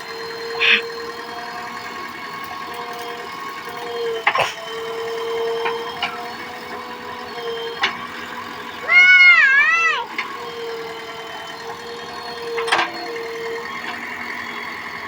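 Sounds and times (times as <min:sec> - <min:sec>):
backhoe loader whining: 0:00.0 - 0:15.0.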